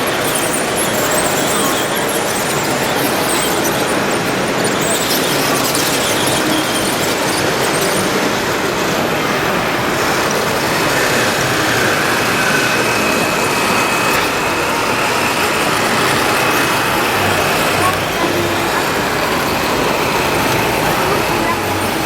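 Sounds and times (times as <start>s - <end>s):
model bulldozer running: 0.0s - 22.0s.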